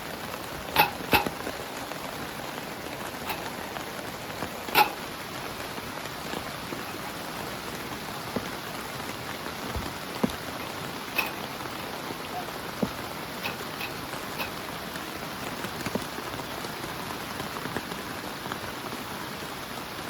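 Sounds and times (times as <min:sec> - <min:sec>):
single raindrops striking: 0:00.0 - 0:18.0
heavy rain on a tent: 0:00.0 - 0:20.0.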